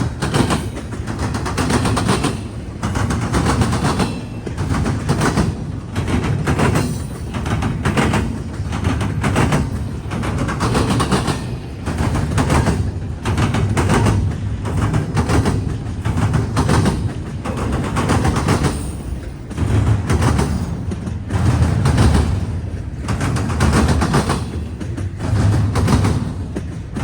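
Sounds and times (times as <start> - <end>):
train rolling rumble: 0.0 - 27.0
train wheels clacking: 0.0 - 27.0.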